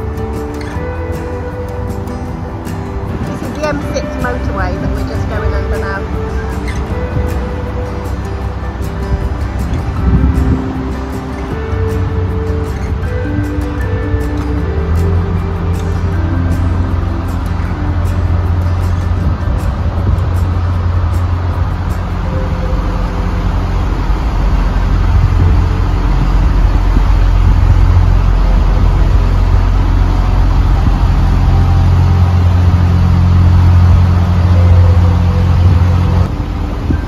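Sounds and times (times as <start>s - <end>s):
boat engine humming: 0.0s - 37.0s.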